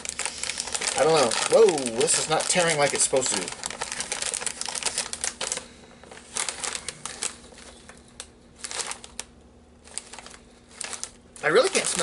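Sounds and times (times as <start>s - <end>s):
plastic crisp bag crinkling: 0.0s - 12.0s.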